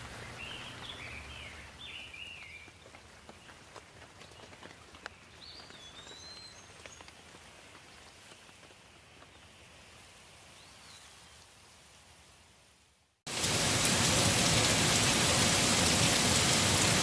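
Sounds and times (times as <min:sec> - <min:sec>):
light rain hiss: 0:00.0 - 0:17.0.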